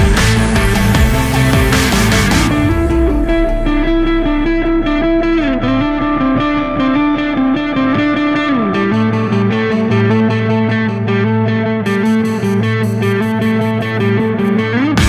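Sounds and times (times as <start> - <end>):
distorted electric guitar riff: 0.0 - 15.0.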